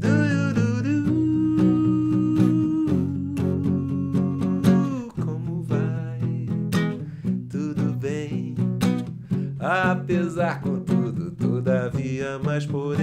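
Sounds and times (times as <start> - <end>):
man singing: 0.0 - 13.0
strummed acoustic guitar: 0.0 - 13.0.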